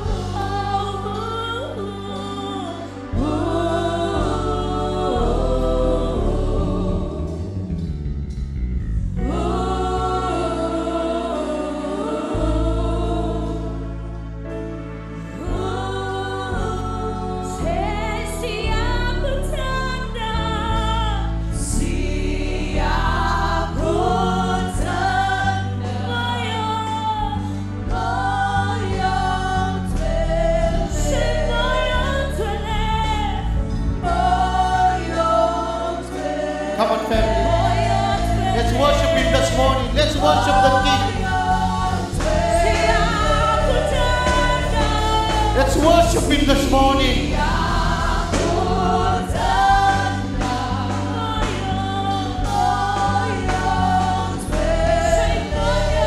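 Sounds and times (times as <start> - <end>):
women singing gospel together: 0.0 - 7.9, 9.2 - 14.2, 15.2 - 56.0.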